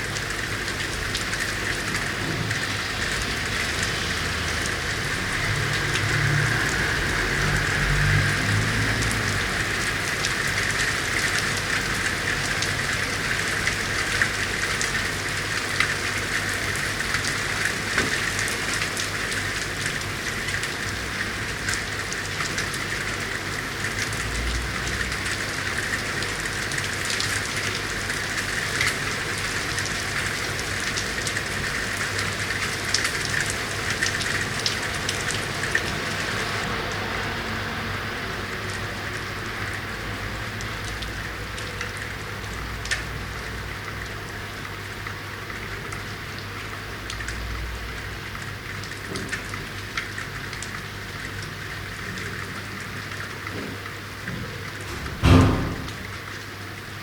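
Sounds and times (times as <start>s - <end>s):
rain falling on street: 0.0s - 57.0s.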